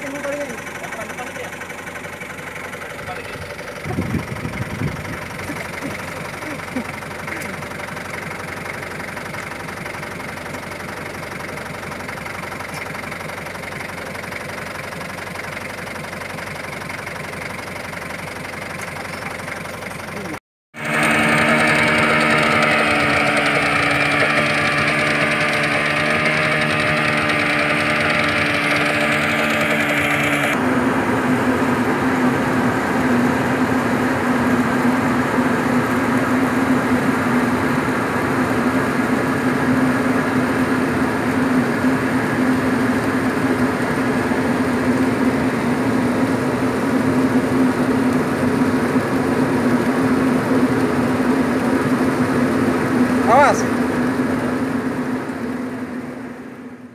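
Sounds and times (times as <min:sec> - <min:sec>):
engine hum with low drone: 0:00.0 - 0:56.9
outboard motor idling: 0:00.0 - 0:56.9.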